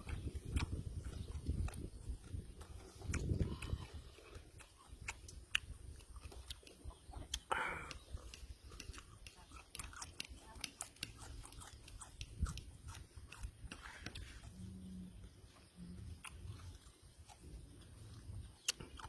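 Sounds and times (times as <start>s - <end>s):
food crunch: 0.0s - 14.6s, 15.5s - 19.0s
wet mouth clicks: 0.0s - 14.6s, 16.1s - 19.0s
man chewing food: 0.0s - 19.0s.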